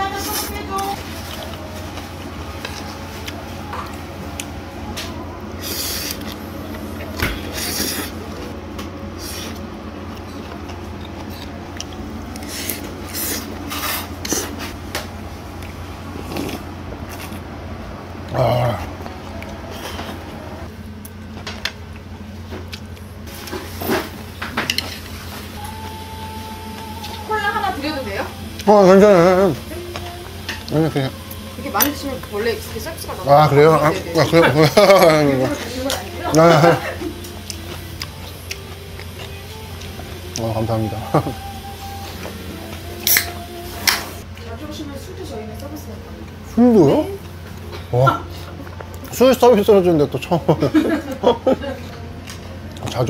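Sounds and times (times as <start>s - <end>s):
low room hum: 0.0s - 53.0s.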